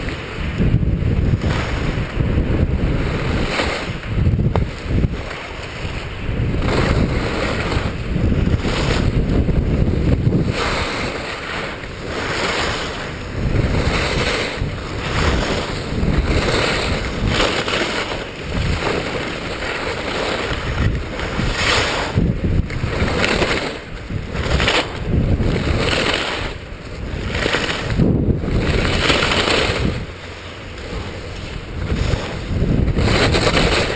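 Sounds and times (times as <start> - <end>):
skis scraping on snow: 0.0 - 33.9
wind rumbling on microphone: 0.0 - 33.9.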